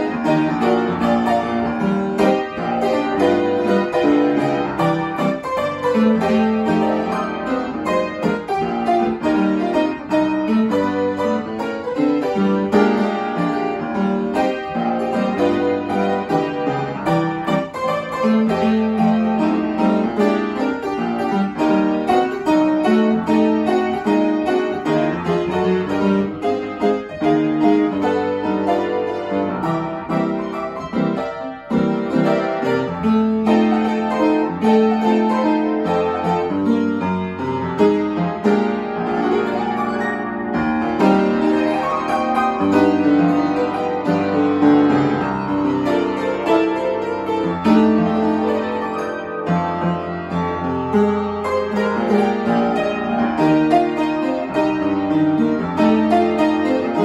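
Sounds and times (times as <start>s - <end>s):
upright piano playing: 0.0s - 57.0s.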